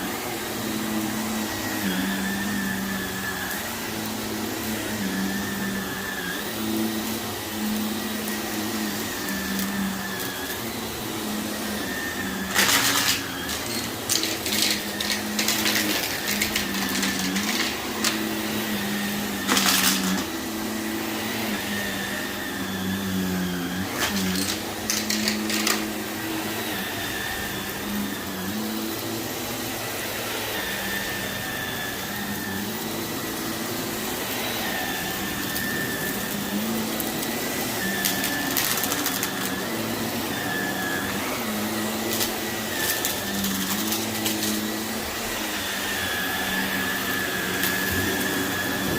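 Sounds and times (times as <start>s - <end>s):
vacuum cleaner running on carpet: 0.0s - 48.9s.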